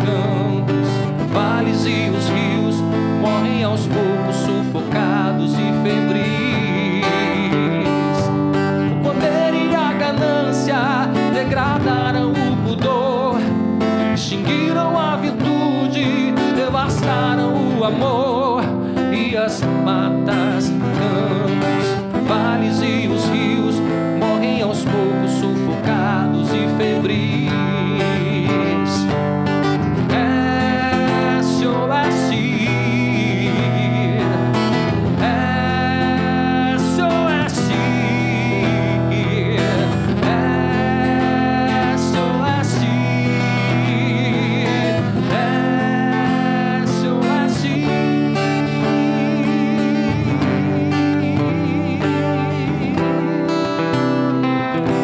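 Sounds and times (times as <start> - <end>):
acoustic guitar: 0.0 - 55.0
man singing: 0.0 - 55.0.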